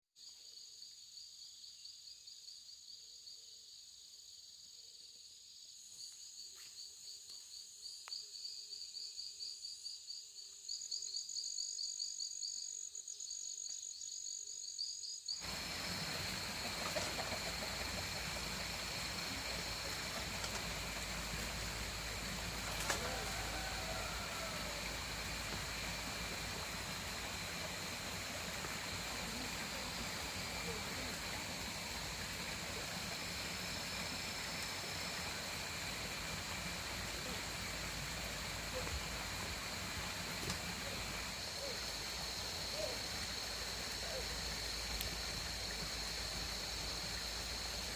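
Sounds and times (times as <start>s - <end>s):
crickets chirping: 0.2s - 47.9s.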